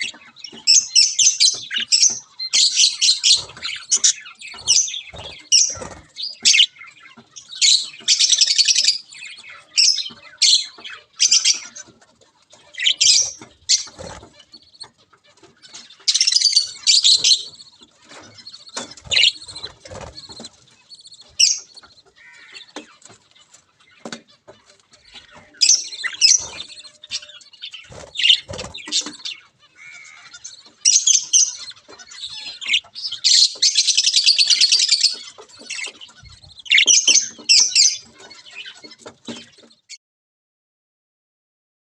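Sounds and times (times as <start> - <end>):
budgerigar chicks begging calls: 0.0 - 39.9.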